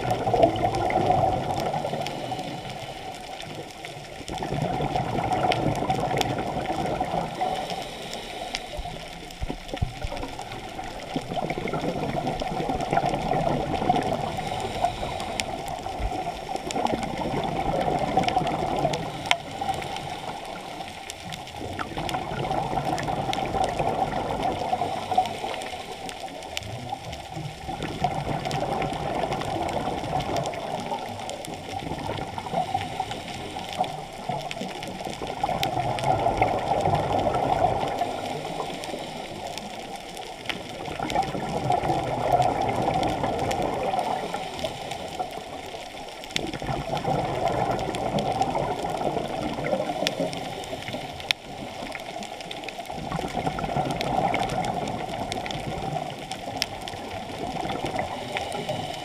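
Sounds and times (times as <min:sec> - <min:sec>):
scuba breathing and bubbles: 0:00.0 - 0:59.0.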